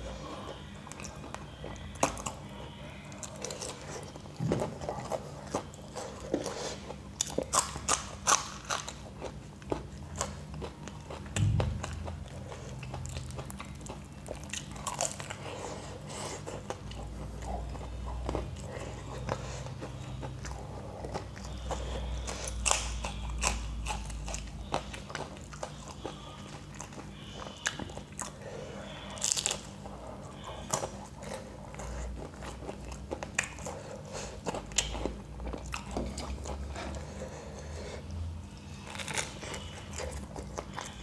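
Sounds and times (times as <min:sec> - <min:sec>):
crunchy chewing of fried pastry: 0:00.0 - 0:41.0.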